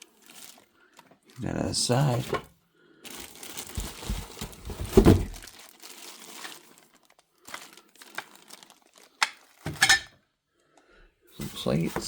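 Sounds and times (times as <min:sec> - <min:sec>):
packaging rustling: 0:00.0 - 0:09.9.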